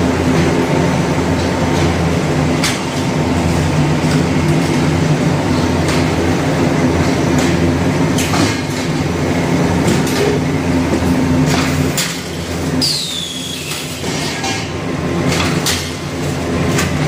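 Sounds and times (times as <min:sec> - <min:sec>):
machine drone of motors and rollers: 0:00.0 - 0:17.0.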